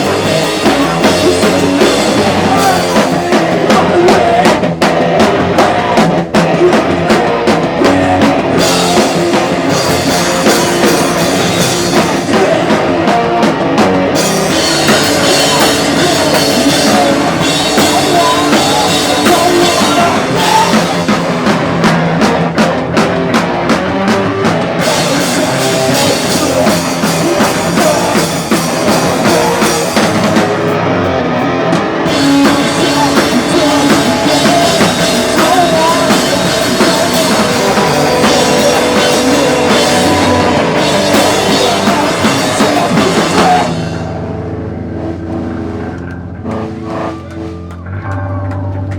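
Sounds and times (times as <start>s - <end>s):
drum kit with cymbals: 0.0s - 30.8s, 31.7s - 44.2s
live rock band: 0.0s - 48.9s.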